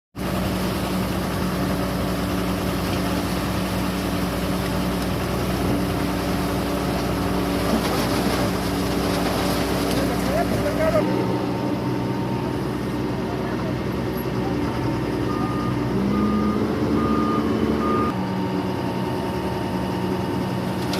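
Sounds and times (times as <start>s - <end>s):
heavy machinery engine droning: 0.2s - 20.9s.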